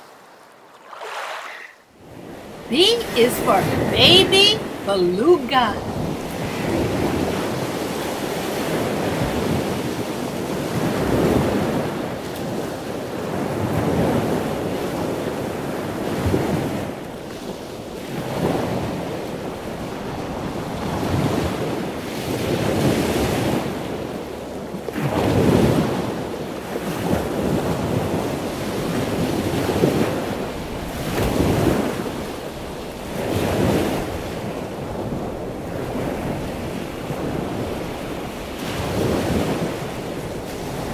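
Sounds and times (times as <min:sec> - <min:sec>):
ocean waves breaking: 0:00.0 - 0:24.1, 0:25.1 - 0:40.9.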